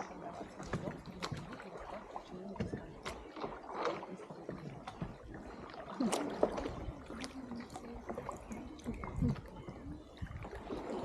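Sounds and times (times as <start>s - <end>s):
faint voices: 0.0s - 11.0s
paddles splashing in water: 0.0s - 11.0s
water lapping: 0.0s - 11.0s.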